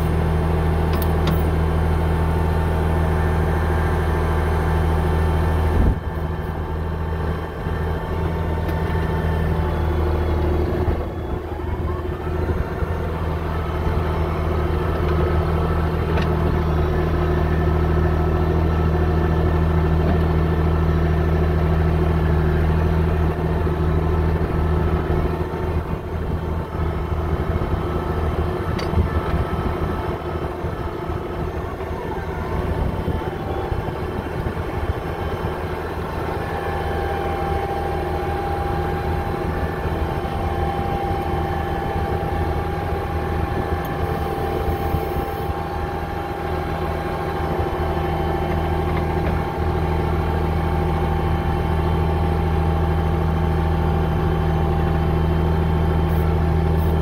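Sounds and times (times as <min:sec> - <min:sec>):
bulldozer engine running: 0:00.0 - 0:57.0.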